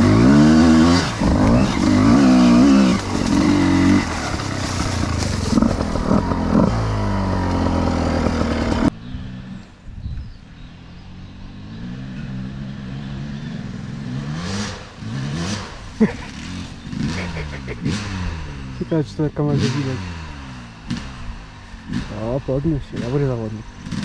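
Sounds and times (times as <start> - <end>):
dull engine rising and falling: 0.0 - 9.8, 10.5 - 24.0
motorcycle engine revving: 0.0 - 24.0.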